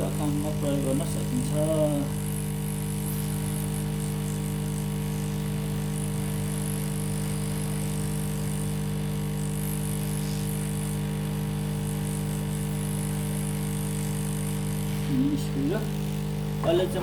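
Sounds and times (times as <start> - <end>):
hot-air station hum and hiss: 0.0 - 17.0.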